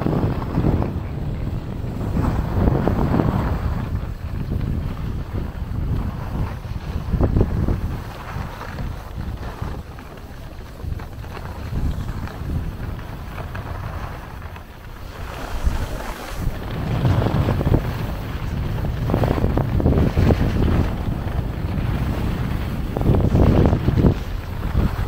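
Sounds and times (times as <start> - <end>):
skis scraping on packed snow: 0.0 - 25.0
wind buffeting microphone: 0.0 - 25.0.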